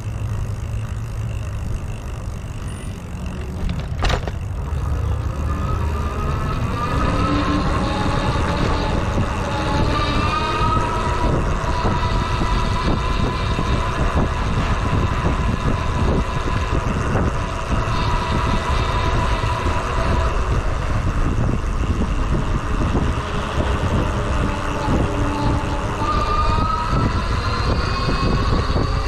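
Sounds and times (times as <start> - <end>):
electric motor whine: 0.0 - 29.0
road rumble: 0.0 - 29.0
wind: 0.0 - 29.0.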